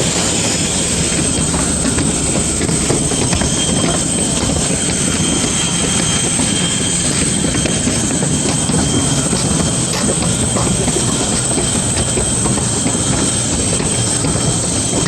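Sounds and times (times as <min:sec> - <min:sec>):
jet aircraft noise: 0:00.0 - 0:15.0.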